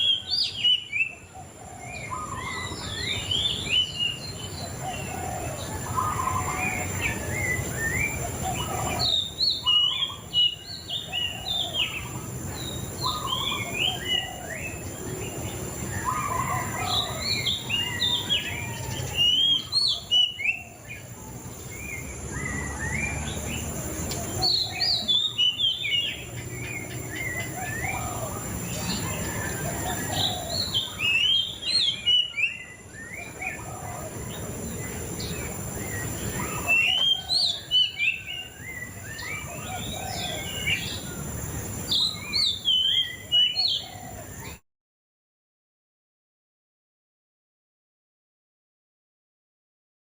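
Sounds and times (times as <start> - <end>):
songbird whistling and chirping: 0.0 - 44.6.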